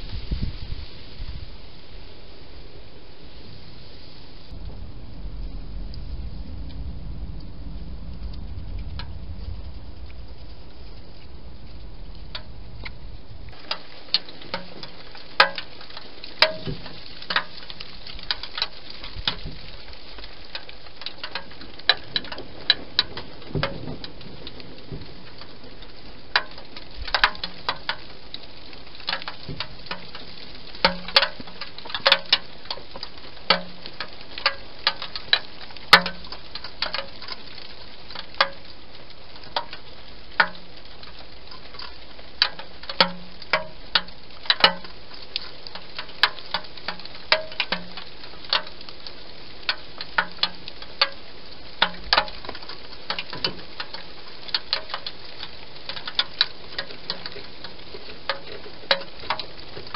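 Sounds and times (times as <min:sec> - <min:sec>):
faint steady hiss: 0:00.0 - 0:59.9.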